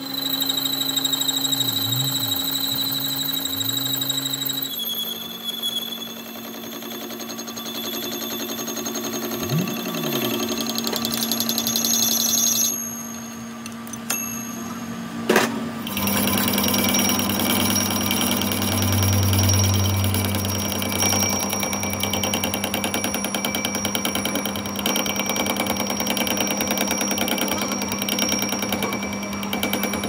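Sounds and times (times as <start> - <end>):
lathe cutting chatter and whine: 0.0 - 13.8, 15.8 - 30.0
lathe spindle hum: 0.0 - 15.1, 15.8 - 30.0.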